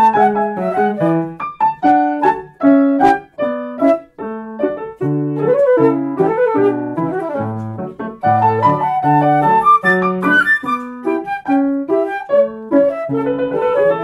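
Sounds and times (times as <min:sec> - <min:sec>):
piano detached chords: 0:00.0 - 0:14.0.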